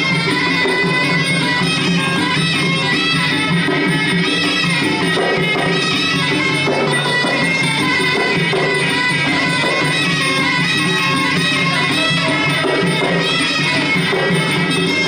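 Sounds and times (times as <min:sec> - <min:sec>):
drums: 0:00.0 - 0:15.0
reedy oboe-like melody: 0:00.0 - 0:15.0
small hand cymbals: 0:00.0 - 0:15.0.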